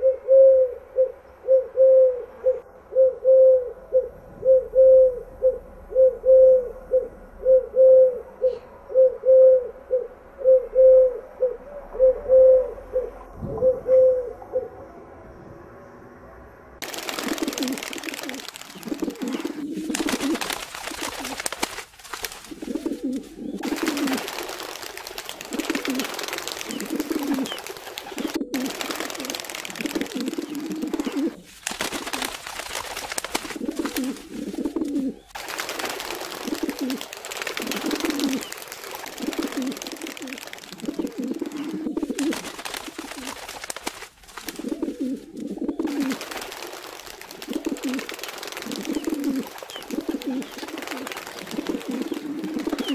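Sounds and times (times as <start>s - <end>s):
pigeons cooing: 0.0s - 14.8s, 16.8s - 21.6s, 22.5s - 32.2s, 33.4s - 35.4s, 36.0s - 43.5s, 44.5s - 52.9s
steady background hiss: 0.0s - 52.9s.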